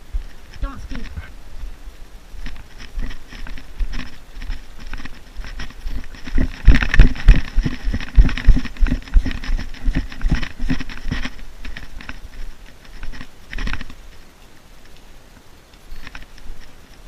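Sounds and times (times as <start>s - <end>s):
quick footsteps: 0.0s - 14.2s.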